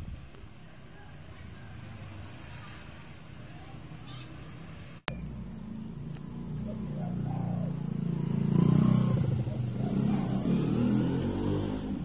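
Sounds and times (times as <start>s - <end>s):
vehicle engine passing by: 1.0s - 12.0s.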